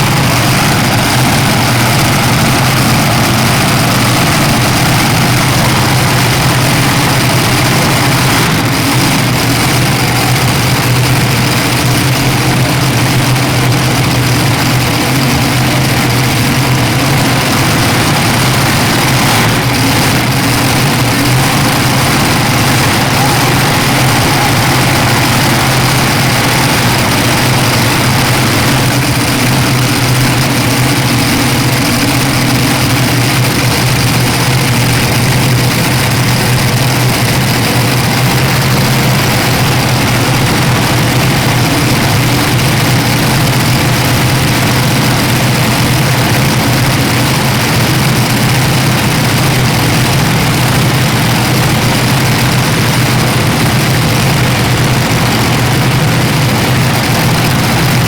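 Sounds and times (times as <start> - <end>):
heavy engine running steadily: 0.0 - 58.0.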